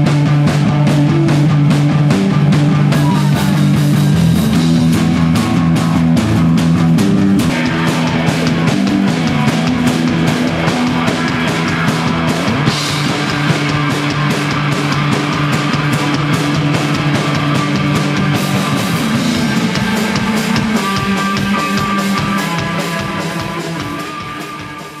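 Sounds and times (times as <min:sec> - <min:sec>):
drums pounding: 0:00.0 - 0:25.0
live rock band playing: 0:00.0 - 0:25.0.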